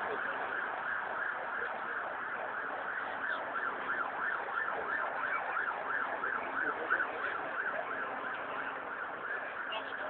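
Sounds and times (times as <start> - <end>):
siren yelping: 0.0 - 10.0
street noise: 0.0 - 10.0.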